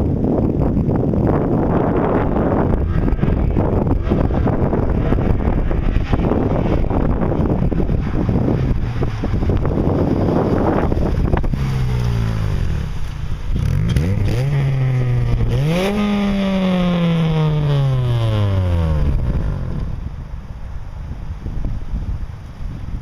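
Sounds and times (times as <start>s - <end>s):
wind noise on microphone: 0.0s - 23.0s
car engine accelerating: 1.3s - 20.6s.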